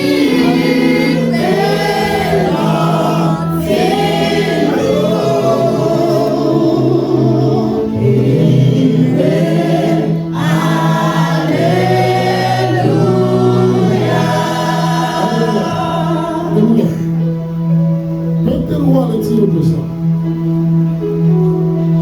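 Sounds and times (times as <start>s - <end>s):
choir singing a hymn: 0.0s - 18.0s
sustained keyboard chords: 0.0s - 22.0s.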